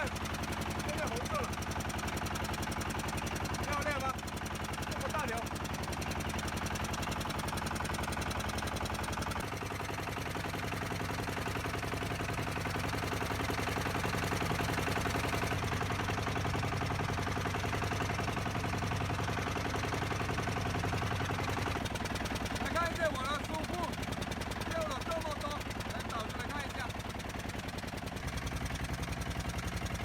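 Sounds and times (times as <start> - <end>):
boat engine knocking: 0.0 - 30.0.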